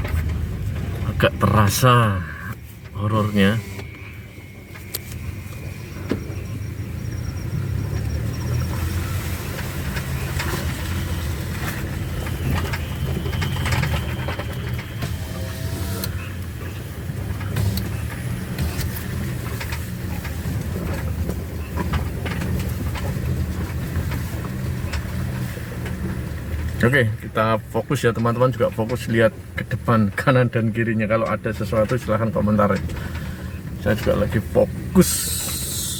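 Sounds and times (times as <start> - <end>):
low engine rumble: 0.0 - 35.9
vehicle knocks and rattles: 0.0 - 35.9.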